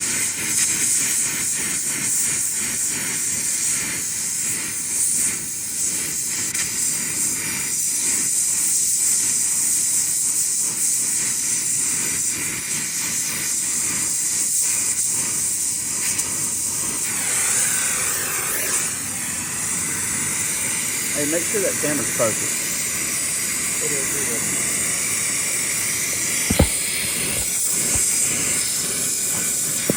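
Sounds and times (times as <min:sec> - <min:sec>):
hiss of pressurized gas: 0:00.0 - 0:29.9.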